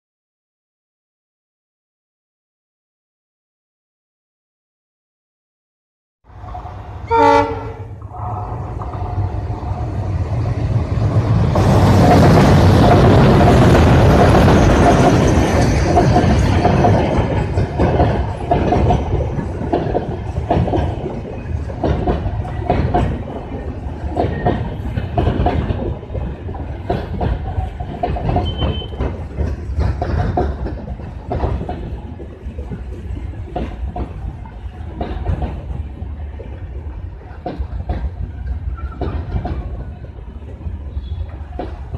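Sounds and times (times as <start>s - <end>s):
diesel locomotive passing: 6.3s - 41.9s
wheels clacking over rail joints: 7.4s - 41.9s.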